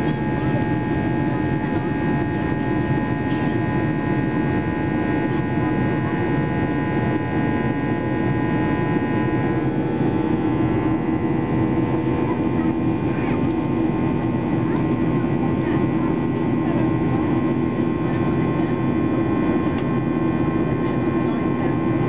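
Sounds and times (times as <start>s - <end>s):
aircraft cabin engine and airflow noise: 0.0s - 22.0s
turbofan whining tones: 0.0s - 22.0s.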